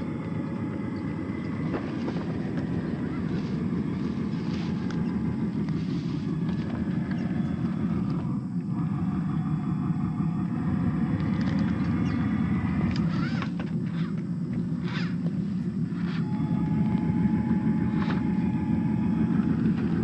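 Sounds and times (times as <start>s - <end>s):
electric motor and gearbox whining: 0.0s - 20.0s.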